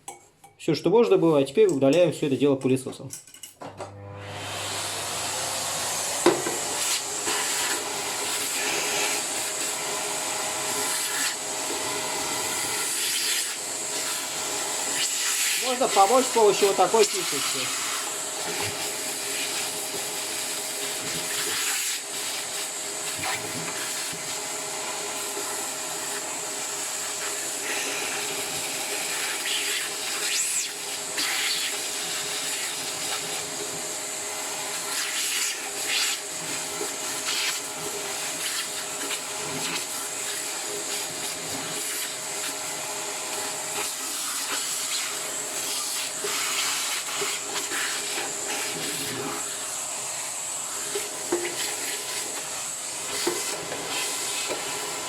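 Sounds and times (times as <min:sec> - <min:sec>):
vacuum cleaner running: 0:03.6 - 0:55.0.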